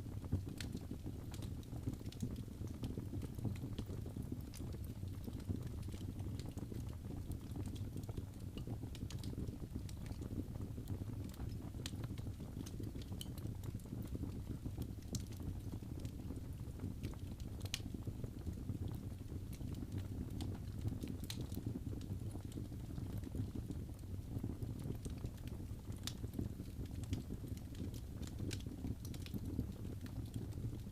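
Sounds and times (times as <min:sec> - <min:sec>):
wood fire burning: 0:00.0 - 0:30.9.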